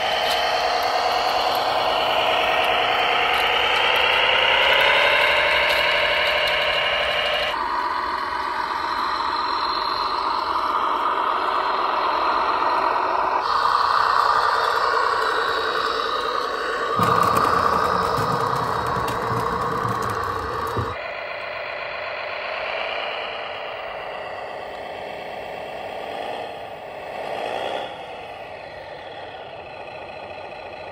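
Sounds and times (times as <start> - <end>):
model tractors running: 0.0 - 30.9.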